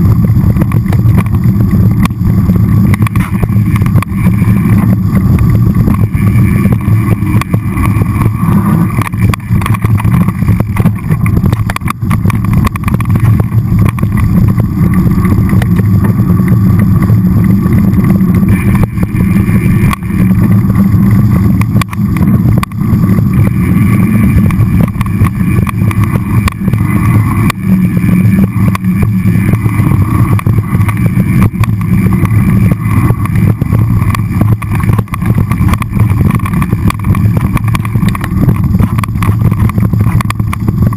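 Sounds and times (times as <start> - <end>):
bike tyre and frame rumble: 0.0 - 40.9
wind buffeting camera: 0.0 - 40.9.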